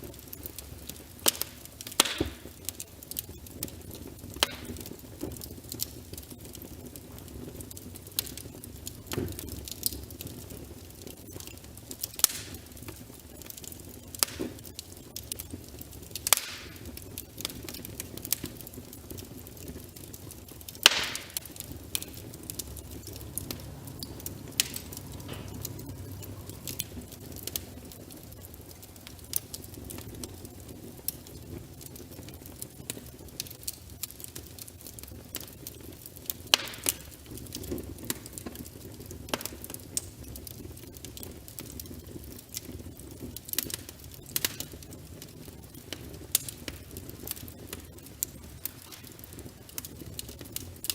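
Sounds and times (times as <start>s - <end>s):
log fire crackling: 0.0s - 50.9s.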